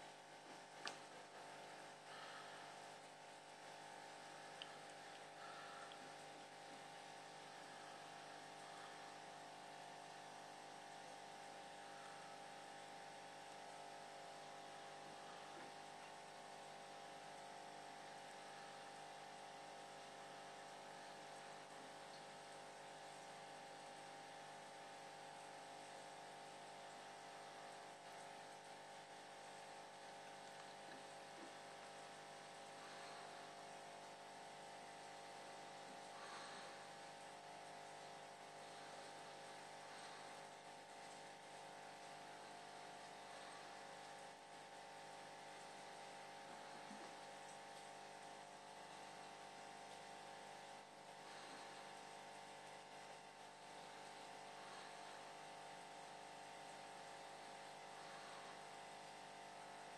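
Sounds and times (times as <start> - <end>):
aquarium air pump humming: 0.0 - 59.9.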